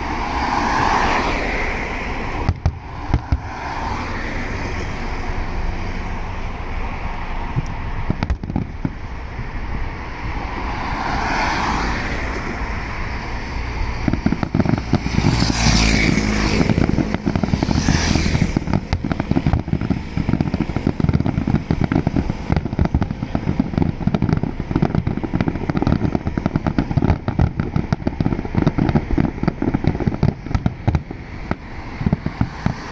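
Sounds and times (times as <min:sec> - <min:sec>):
fireworks banging and crackling: 0:00.0 - 0:32.9.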